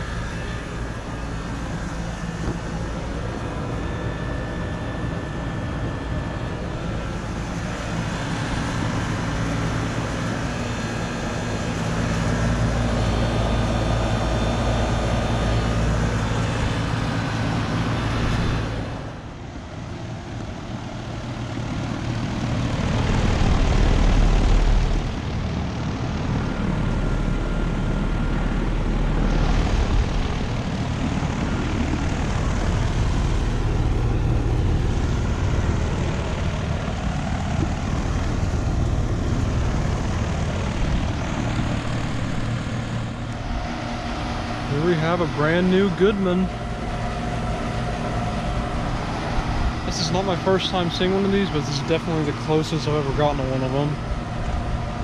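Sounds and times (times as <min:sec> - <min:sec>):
air conditioner unit humming: 0:00.0 - 0:55.0
condenser fan rushing: 0:00.0 - 0:55.0.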